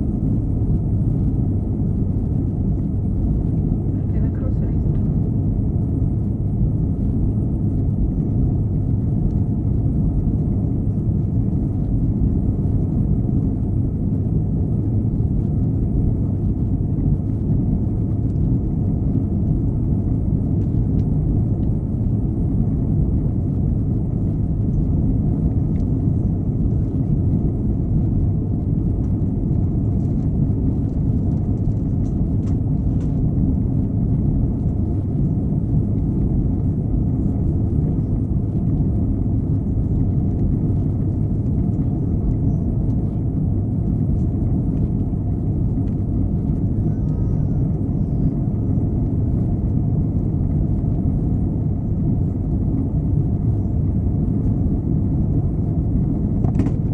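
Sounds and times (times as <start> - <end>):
air rushing along fuselage: 0.0 - 56.9
jet engine drone in cabin: 0.0 - 56.9.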